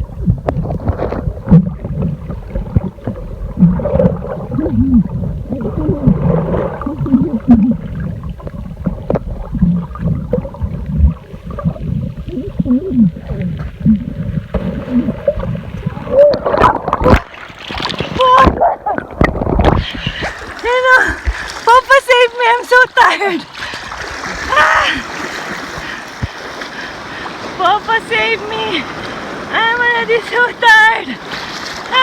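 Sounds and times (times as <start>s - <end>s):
water gurgling and sloshing: 0.0s - 32.0s.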